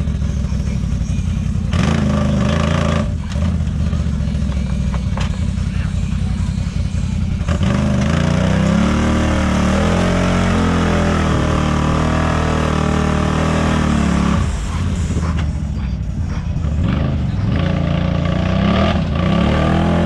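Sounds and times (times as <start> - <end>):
engine at full throttle: 0.0 - 20.0.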